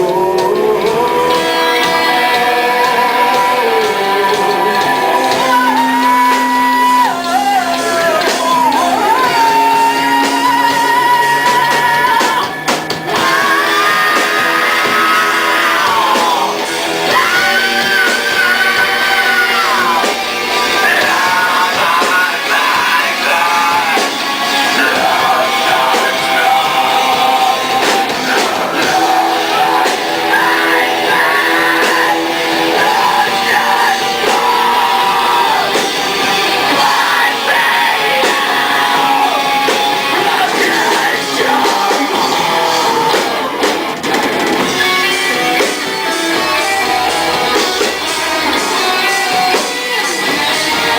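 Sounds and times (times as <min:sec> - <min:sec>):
electric guitar: 0:00.0 - 0:50.9
person singing: 0:00.0 - 0:50.9.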